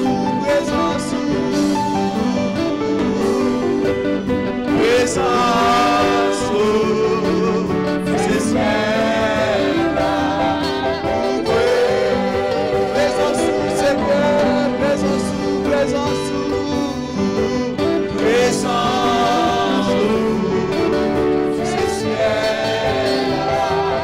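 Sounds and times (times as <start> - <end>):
instrumental accompaniment: 0.0 - 24.0
man and woman singing hymn: 0.0 - 24.0.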